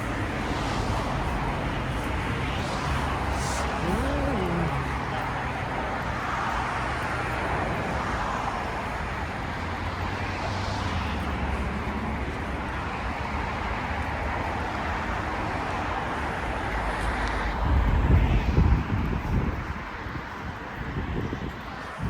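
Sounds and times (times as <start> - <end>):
passing vehicles hiss: 0.0 - 19.4.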